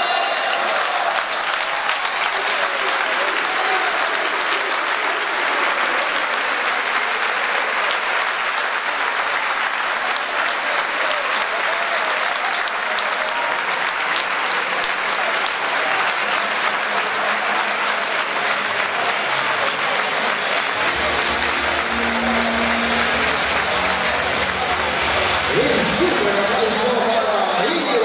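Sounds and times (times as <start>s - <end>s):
audience applauding: 0.0s - 28.0s.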